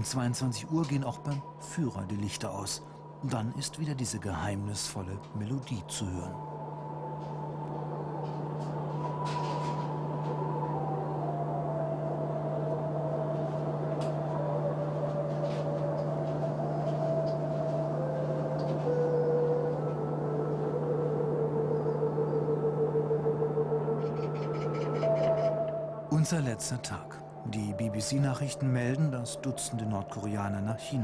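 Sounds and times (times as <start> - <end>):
low hum and hiss: 0.0 - 31.0
slow mysterious melody: 0.0 - 31.0.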